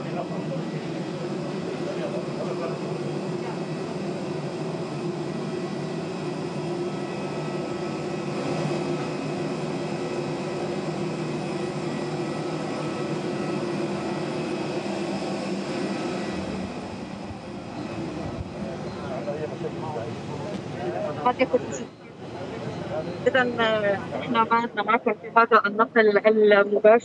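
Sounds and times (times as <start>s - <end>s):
airliner machinery hum and whine: 0.0s - 27.0s.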